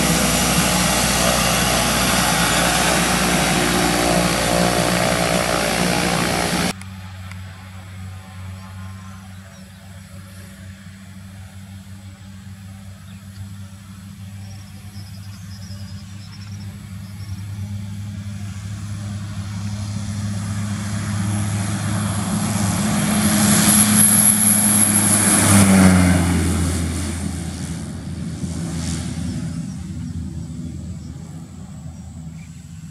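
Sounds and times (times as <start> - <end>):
turboprop plane taking off: 0.0 - 32.9.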